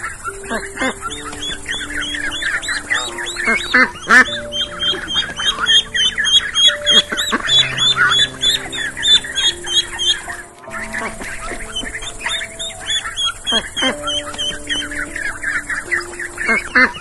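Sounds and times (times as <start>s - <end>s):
background music with held notes: 0.0s - 17.0s
birds calling: 0.0s - 17.0s.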